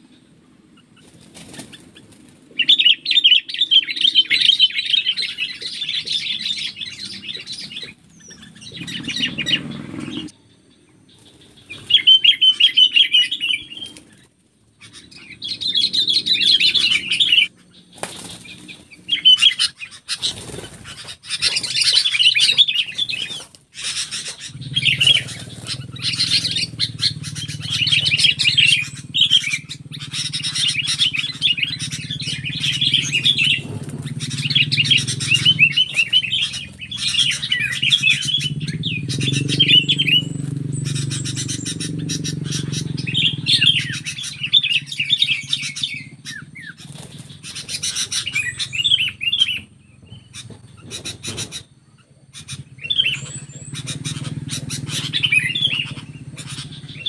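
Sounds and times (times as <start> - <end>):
birds chattering harshly: 0.0 - 57.0
wings flapping: 1.0 - 2.9, 5.1 - 10.3, 11.2 - 51.7, 52.4 - 57.0.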